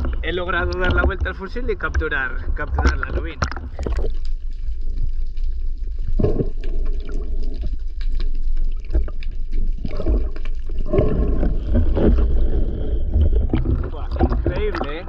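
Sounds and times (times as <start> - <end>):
underwater low rumble: 0.0 - 15.0
water gurgling: 0.0 - 15.0.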